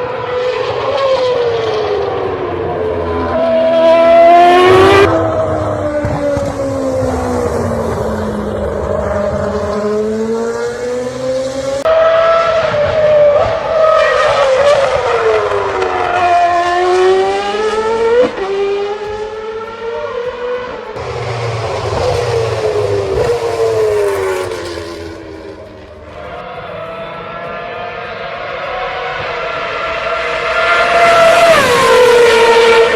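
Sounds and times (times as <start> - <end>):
racing car engine revving: 0.0 - 32.9.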